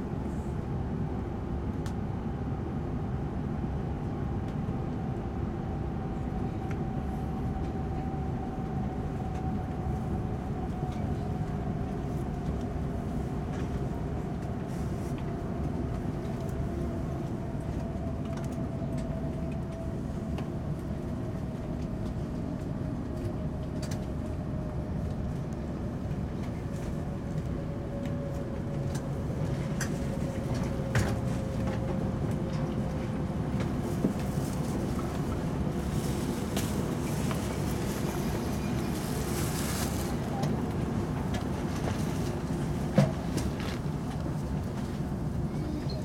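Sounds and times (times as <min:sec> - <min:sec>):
train running rumble: 0:00.0 - 0:46.0.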